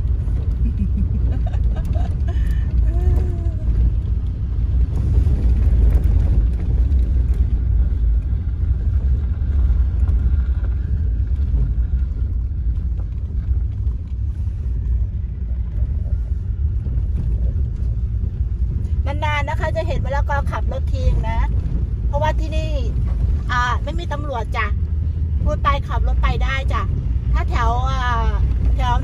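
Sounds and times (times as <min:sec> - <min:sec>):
car engine running: 0:00.0 - 0:29.0
tyre and road noise: 0:00.0 - 0:29.0.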